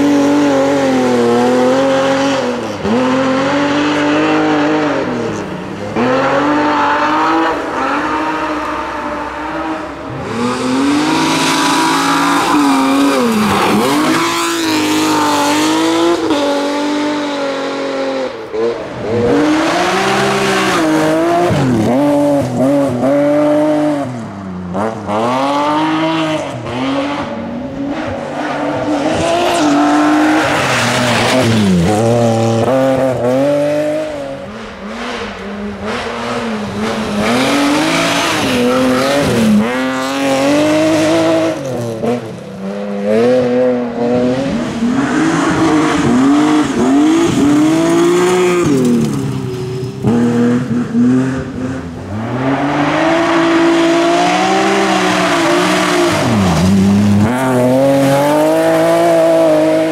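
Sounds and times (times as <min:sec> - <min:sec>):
rally car engines revving hard: 0:00.0 - 0:59.9.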